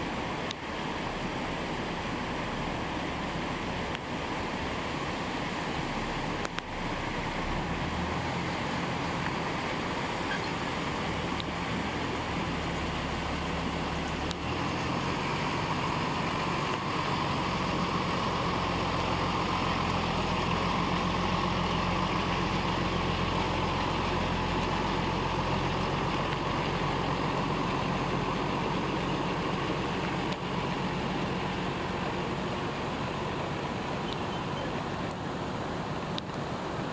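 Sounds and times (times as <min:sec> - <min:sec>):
diesel truck engine: 0:00.0 - 0:36.9.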